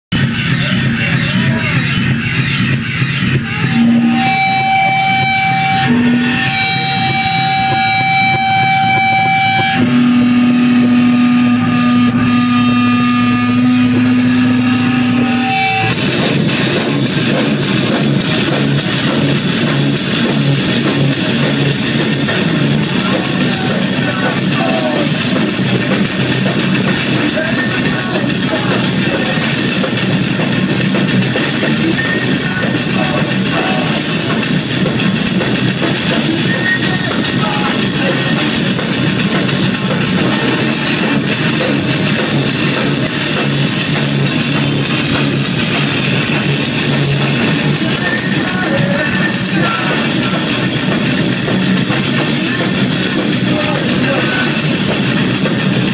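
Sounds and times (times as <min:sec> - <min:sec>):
bass guitar: 0:00.0 - 0:55.9
distorted electric guitars: 0:00.0 - 0:55.9
drums: 0:00.0 - 0:55.9.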